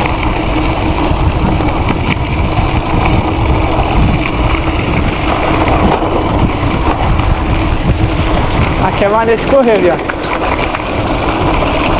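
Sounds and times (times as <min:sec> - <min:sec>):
mountain bike tyre and frame rattle: 0:00.0 - 0:11.9
wind rush on microphone: 0:00.0 - 0:11.9.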